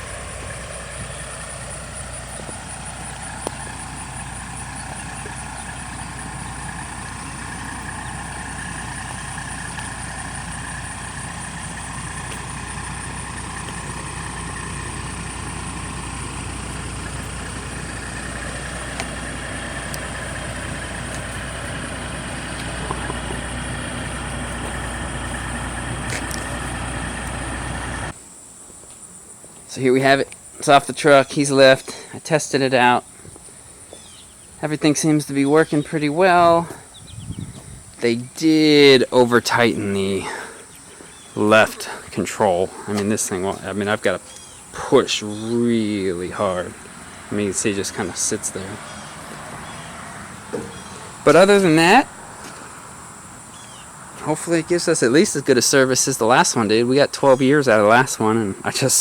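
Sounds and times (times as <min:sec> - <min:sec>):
engine idling: 0:00.0 - 0:28.2, 0:30.4 - 0:59.0.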